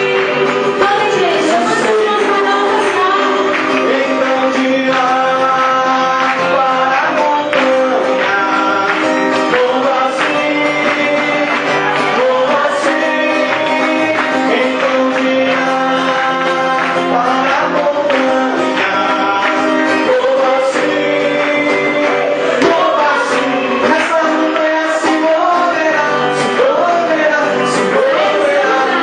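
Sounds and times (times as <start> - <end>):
acoustic guitar: 0.0 - 29.0
male and female voices singing: 0.0 - 29.0.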